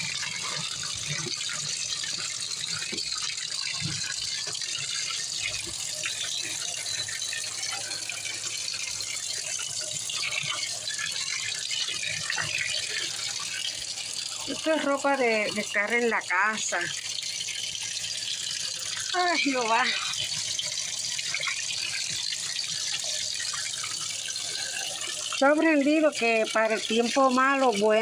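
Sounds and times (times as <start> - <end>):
water rushing in washing machine: 0.0 - 28.0.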